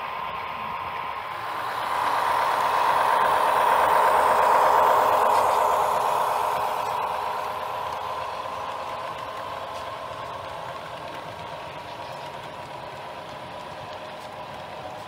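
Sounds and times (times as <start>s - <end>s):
model train cars rolling on track: 0.0s - 15.0s
model train engine hum: 0.0s - 15.0s.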